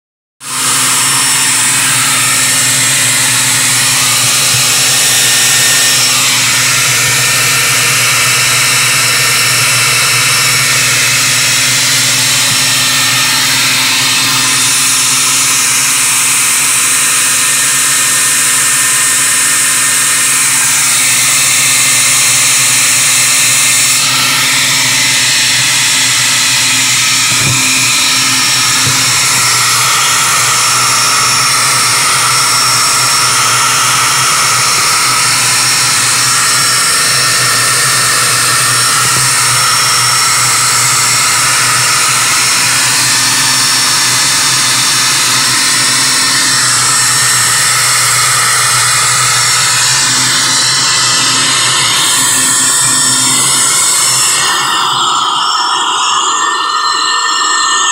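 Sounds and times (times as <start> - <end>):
small electric motor whirring: 0.4 - 57.9.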